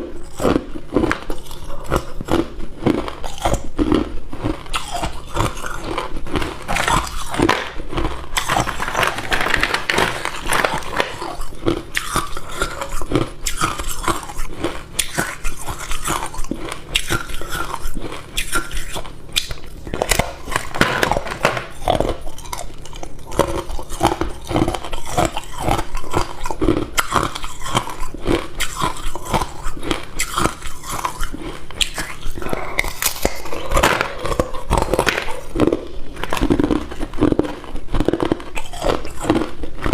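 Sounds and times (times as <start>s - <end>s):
chewing ice cubes: 0.0s - 39.9s.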